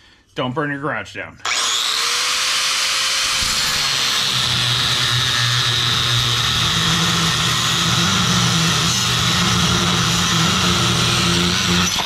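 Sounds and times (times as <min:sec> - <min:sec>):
angle grinder cutting metal: 0:01.4 - 0:12.0.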